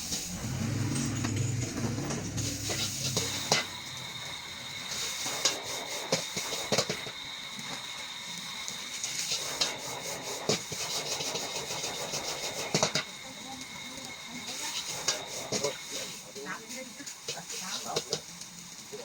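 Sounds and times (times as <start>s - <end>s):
rice sizzling in a wok: 0.0s - 19.0s.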